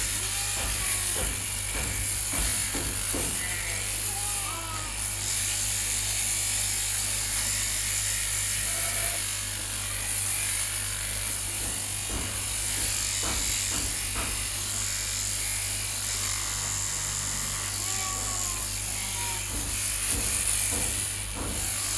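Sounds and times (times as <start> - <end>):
shearing handpiece buzzing: 0.0 - 21.9.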